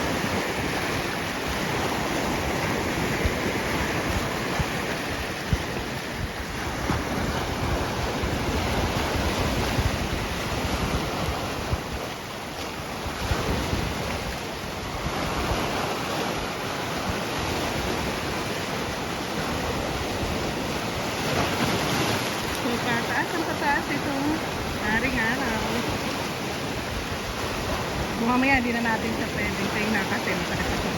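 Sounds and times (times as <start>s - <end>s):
sea waves washing in: 0.0s - 30.9s
wind rumbling on microphone: 0.0s - 30.9s.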